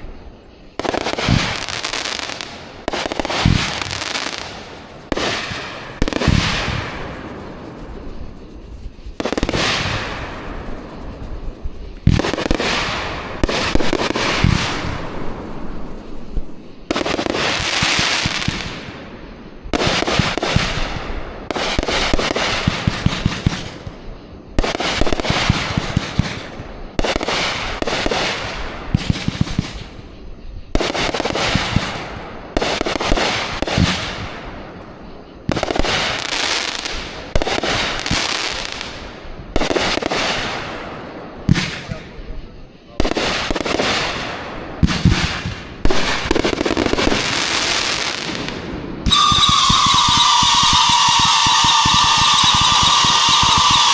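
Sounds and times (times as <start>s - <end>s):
fireworks popping and crackling: 0.0s - 53.9s.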